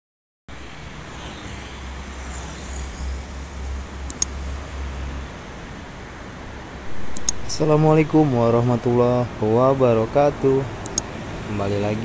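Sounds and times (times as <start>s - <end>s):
motorcycles and cars passing: 0.5s - 12.0s.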